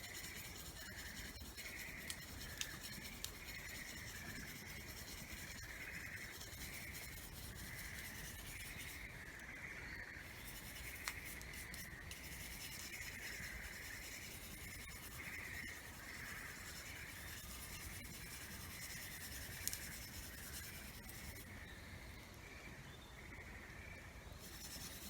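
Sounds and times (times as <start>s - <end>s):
slow scraping strokes: 0.0s - 9.4s, 10.2s - 21.5s, 24.4s - 25.0s.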